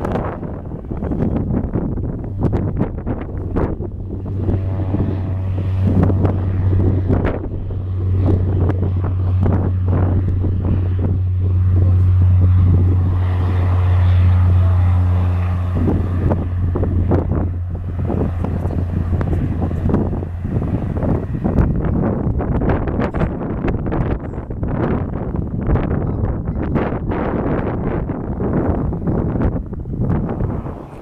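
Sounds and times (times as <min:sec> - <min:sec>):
turboprop engine drone: 0:00.0 - 0:31.0
wind buffeting microphone: 0:00.0 - 0:31.0.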